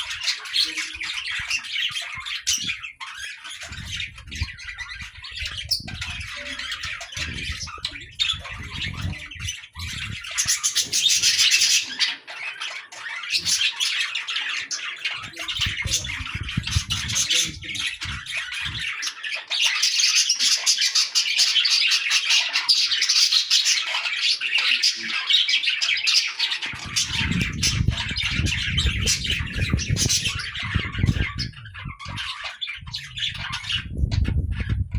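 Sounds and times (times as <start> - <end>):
small birds chirping and squawking: 0.0 - 34.9.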